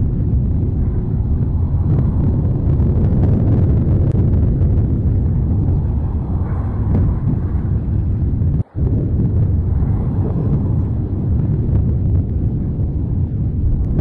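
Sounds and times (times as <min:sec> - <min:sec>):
volcanic eruption roaring: 0:00.0 - 0:14.0.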